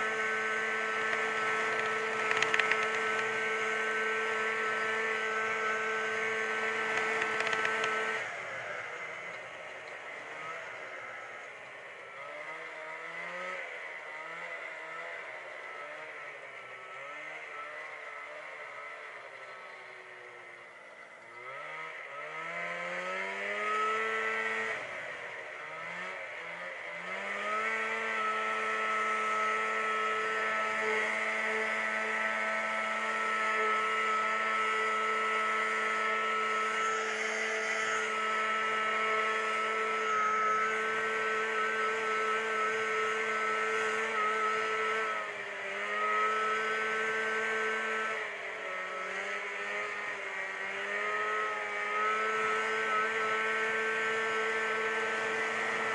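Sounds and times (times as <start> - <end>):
snowmobile engine: 0.0 - 55.9.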